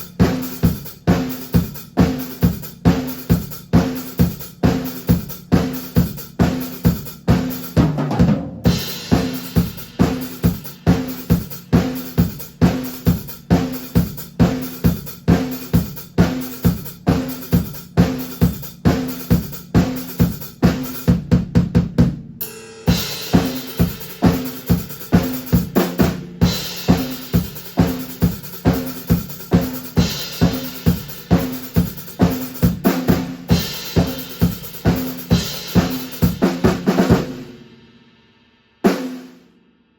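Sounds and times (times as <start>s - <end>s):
drum kit beat: 0.0s - 37.8s, 38.8s - 39.4s.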